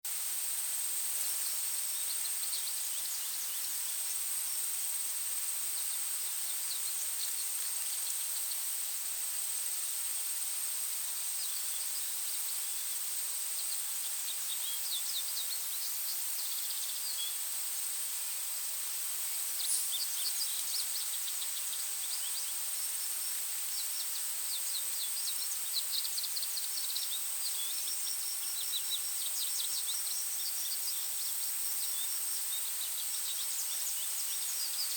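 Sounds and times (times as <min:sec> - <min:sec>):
steady hiss: 0:00.1 - 0:34.9.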